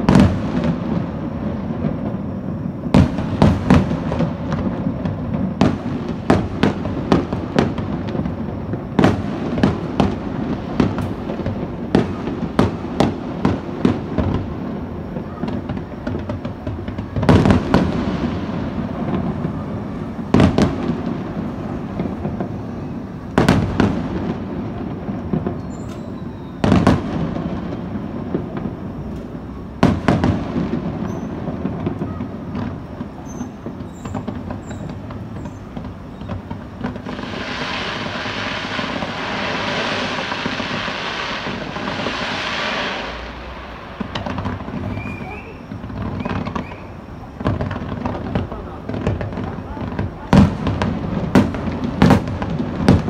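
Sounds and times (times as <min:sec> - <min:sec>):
firework hissing crackle: 0:00.0 - 0:53.0
firework shells booming: 0:00.0 - 0:53.0
low rumble of firework launches: 0:00.0 - 0:53.0.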